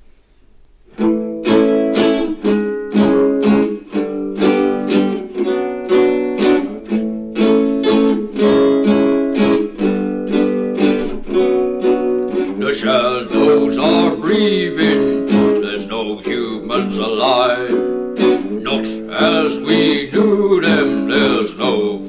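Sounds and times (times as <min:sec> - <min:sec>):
acoustic guitar strumming: 0:00.9 - 0:22.0.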